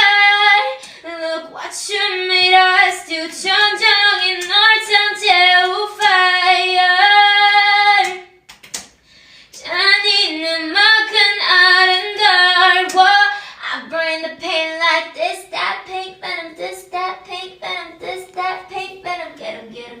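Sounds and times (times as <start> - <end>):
girl singing unaccompanied: 0.0 - 8.4, 9.6 - 20.0.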